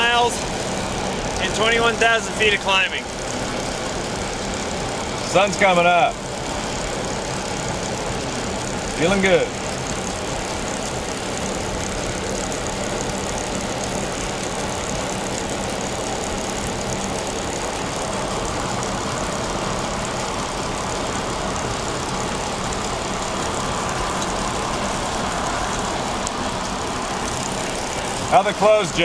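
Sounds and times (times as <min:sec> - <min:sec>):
van engine and road noise: 0:00.0 - 0:29.0.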